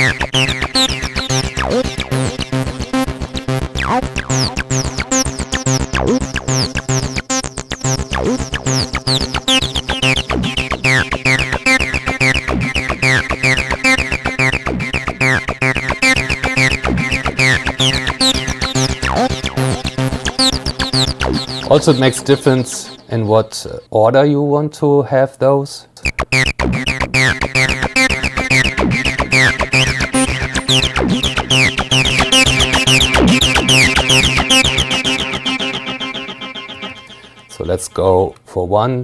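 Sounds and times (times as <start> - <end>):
distorted acid synth bass line: 0.0 - 23.4, 26.0 - 37.8
steady low beat: 0.0 - 23.5, 26.0 - 37.8.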